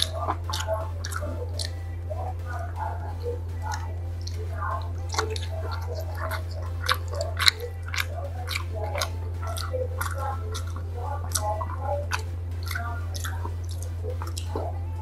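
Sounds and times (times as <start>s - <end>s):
man chewing and slurping bone: 0.0s - 15.0s
steady low hum: 0.0s - 15.0s.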